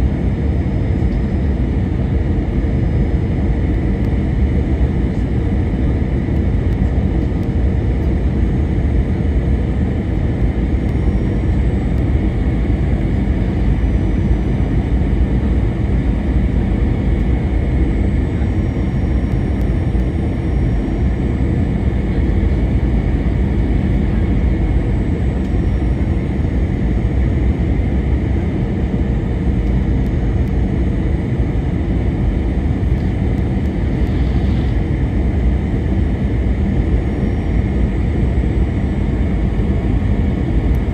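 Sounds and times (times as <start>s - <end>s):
airplane cabin rumble: 0.0s - 40.9s
faint steady whine: 0.0s - 40.9s.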